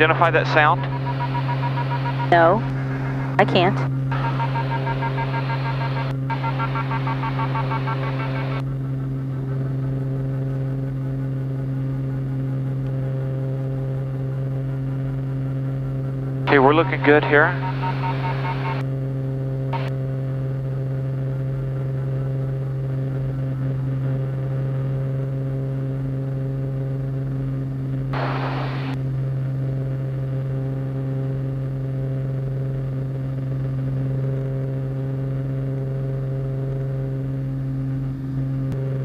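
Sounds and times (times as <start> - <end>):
aircraft engine and propeller droning: 0.0 - 39.0.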